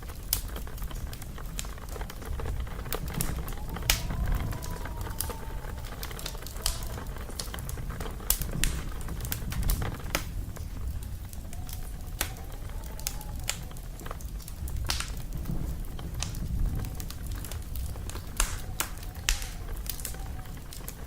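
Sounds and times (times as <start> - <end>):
wood fire crackling and popping: 0.0 - 21.0
distant wolf howl: 0.1 - 21.0.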